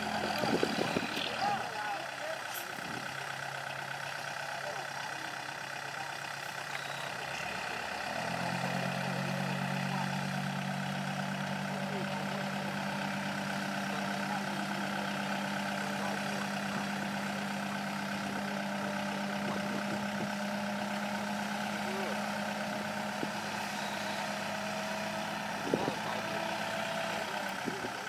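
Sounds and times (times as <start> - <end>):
heavy diesel engine revving: 0.0 - 28.0.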